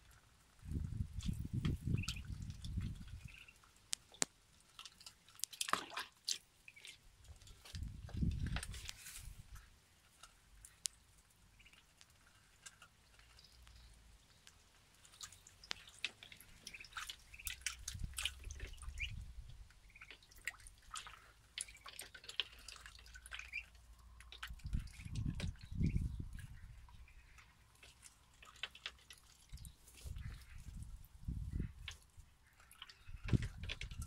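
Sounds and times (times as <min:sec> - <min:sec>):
ducklings dabbling in water: 0:00.0 - 0:34.0.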